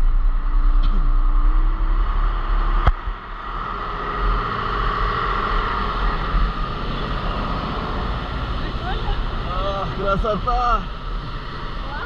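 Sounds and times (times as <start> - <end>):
motorboat running at speed: 0.2 - 12.0.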